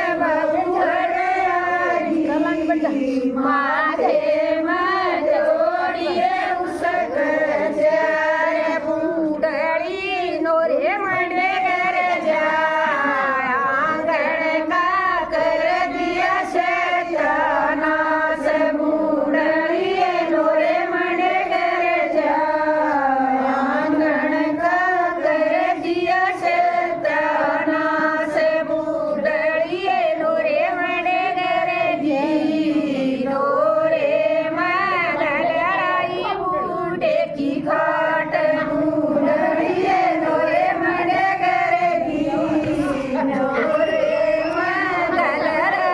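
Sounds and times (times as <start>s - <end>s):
women singing devotional song: 0.0s - 45.9s.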